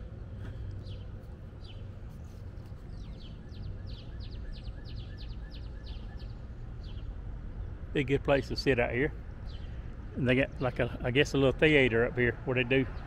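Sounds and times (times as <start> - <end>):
low outdoor rumble: 0.0 - 13.0
songbird singing: 0.0 - 13.0.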